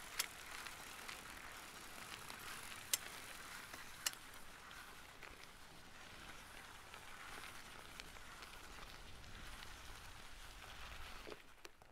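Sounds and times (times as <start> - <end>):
bicycle tyres crunching on gravel: 0.0 - 11.9
small clicks of stones: 0.0 - 11.9.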